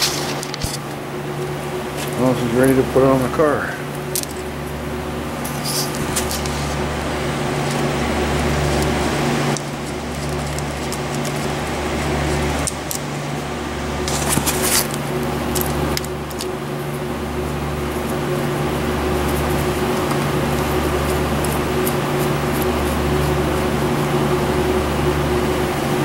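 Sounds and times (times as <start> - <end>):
low pulsing drone: 0.0 - 26.0
machine hum: 0.0 - 26.0.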